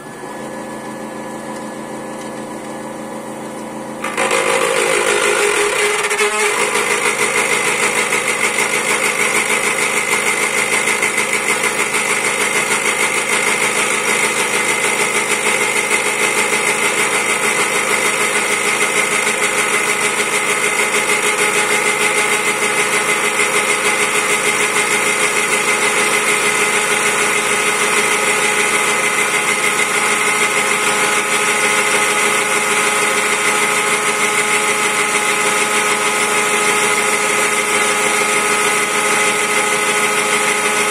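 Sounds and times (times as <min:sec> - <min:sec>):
bit cutting wood: 0:04.0 - 0:40.9.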